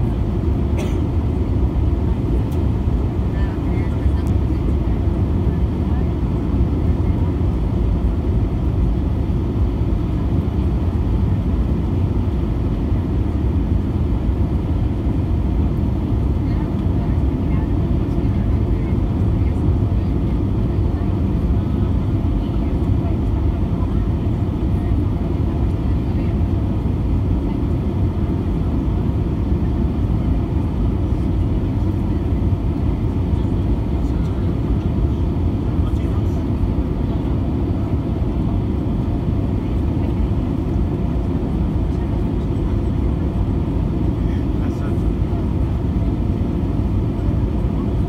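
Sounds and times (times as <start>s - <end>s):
aircraft engine rumble: 0.0s - 48.0s
airflow over fuselage: 0.0s - 48.0s.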